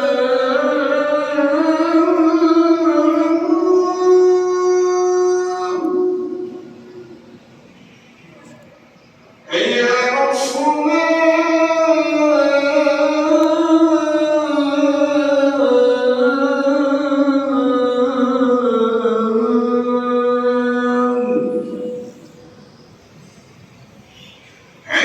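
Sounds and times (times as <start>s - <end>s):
person chanting call to prayer: 0.0s - 7.3s, 9.5s - 22.7s.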